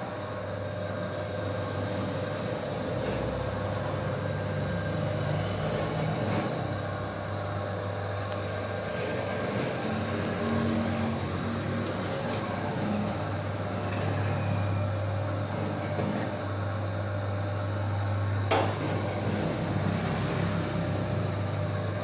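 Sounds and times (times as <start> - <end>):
coffee roaster motor hum: 0.0 - 22.0.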